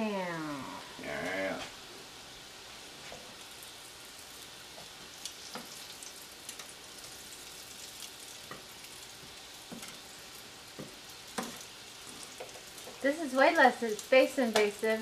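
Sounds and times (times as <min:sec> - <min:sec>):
mushrooms sizzling in hot oil: 0:00.0 - 0:15.0.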